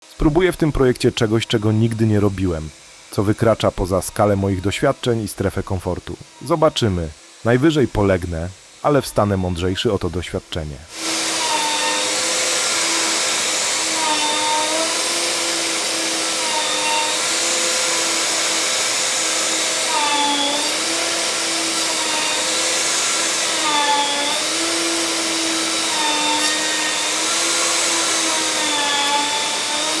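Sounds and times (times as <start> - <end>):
vacuum motor running: 0.0 - 30.0.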